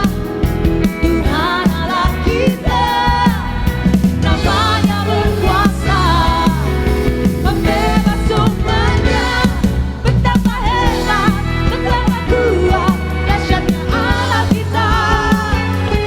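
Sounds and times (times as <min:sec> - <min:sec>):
band playing praise song: 0:00.0 - 0:16.0
voices singing in harmony: 0:01.0 - 0:16.0.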